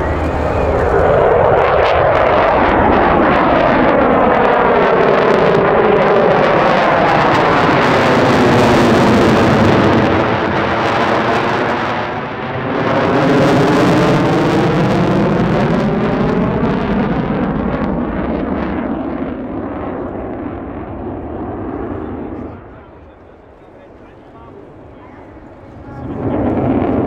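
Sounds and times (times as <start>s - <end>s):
jet engine flying overhead: 0.0s - 27.0s.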